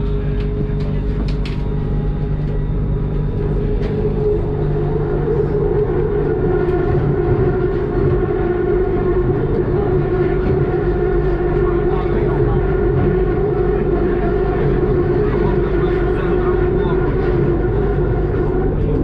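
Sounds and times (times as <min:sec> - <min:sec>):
electric train rumbling and whining: 0:00.0 - 0:19.0.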